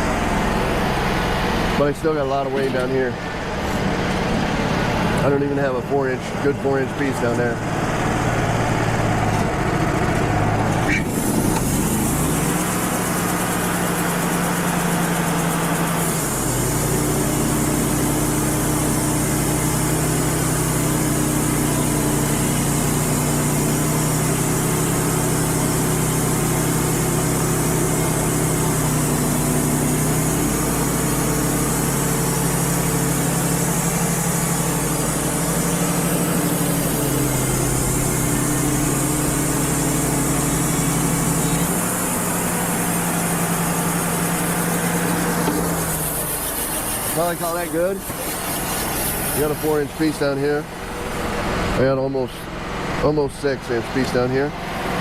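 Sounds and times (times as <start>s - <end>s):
band sawmill running: 0.0s - 55.0s.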